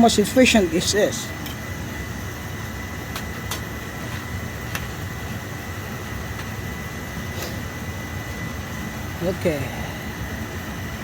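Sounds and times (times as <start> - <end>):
boiler burner rumble and hiss: 0.0 - 11.0.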